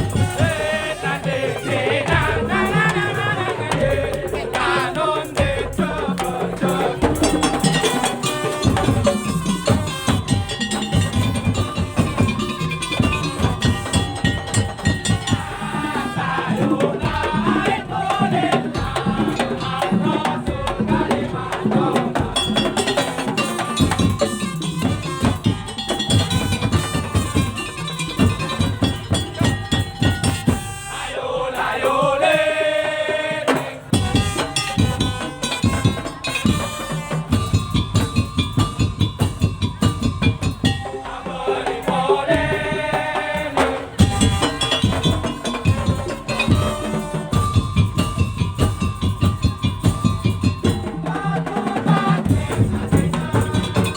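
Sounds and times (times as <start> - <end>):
percussion ensemble playing: 0.0 - 53.9.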